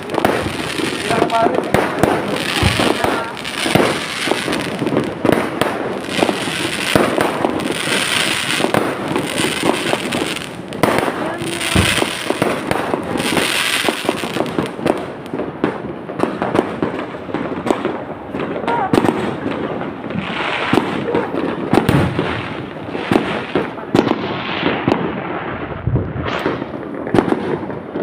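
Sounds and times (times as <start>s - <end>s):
fireworks bangs and pops: 0.0s - 28.0s
fireworks crackling: 0.0s - 28.0s.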